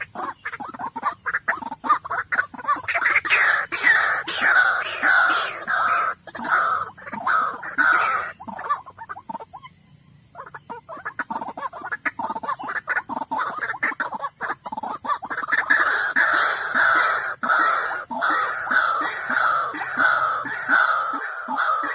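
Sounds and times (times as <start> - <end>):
waterhen calling: 0.0 - 9.7, 10.4 - 21.9.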